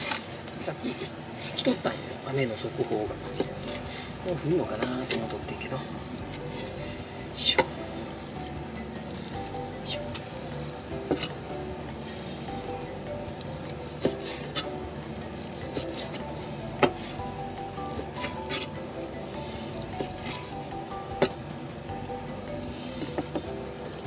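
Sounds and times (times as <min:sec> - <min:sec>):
steady high hiss: 0:00.0 - 0:24.0.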